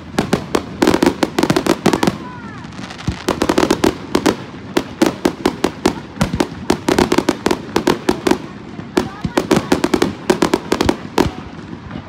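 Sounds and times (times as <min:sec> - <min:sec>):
fireworks crackling pops: 0:00.0 - 0:12.0.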